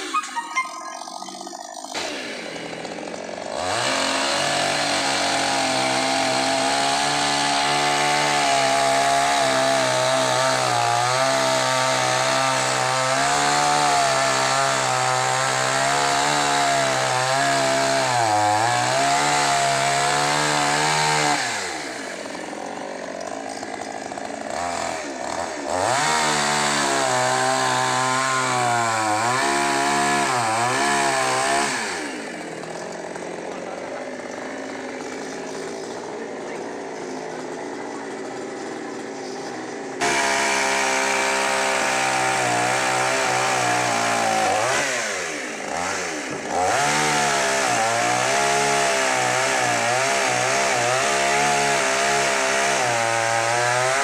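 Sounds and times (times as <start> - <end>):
chainsaw cutting wood: 0.0 - 54.0
chainsaw idling: 0.0 - 54.0.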